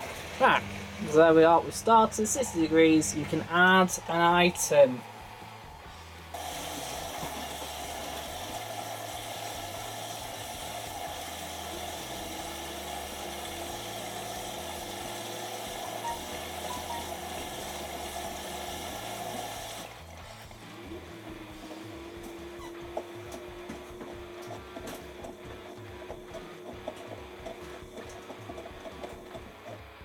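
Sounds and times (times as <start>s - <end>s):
water rushing into washing machine: 0.0s - 30.0s.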